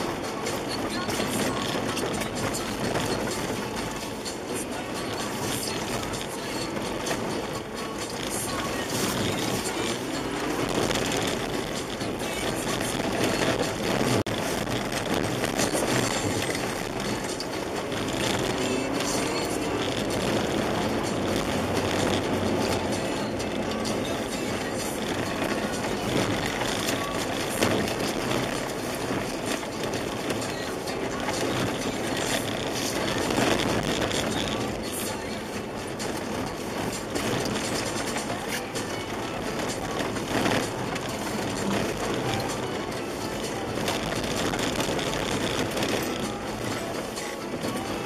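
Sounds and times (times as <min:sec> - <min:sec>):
car engine running: 0:00.0 - 0:48.0
tyres rumbling on snow: 0:00.0 - 0:48.0.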